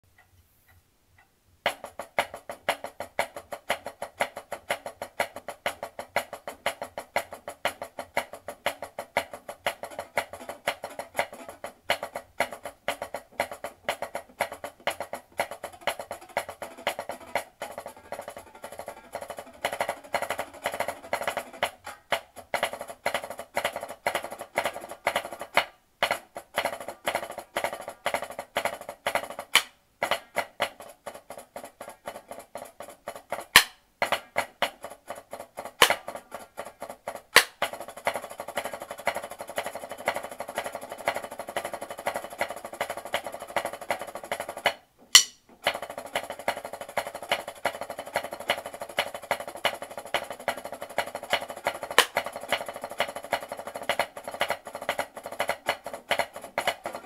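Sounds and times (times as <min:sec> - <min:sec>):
drumsticks on practice pad: 0:00.1 - 0:57.0.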